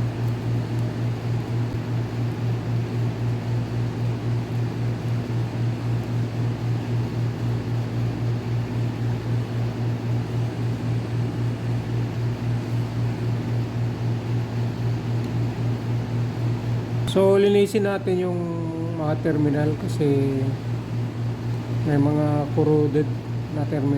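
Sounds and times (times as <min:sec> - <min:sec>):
motor humming with rapid pulsing: 0:00.0 - 0:23.9.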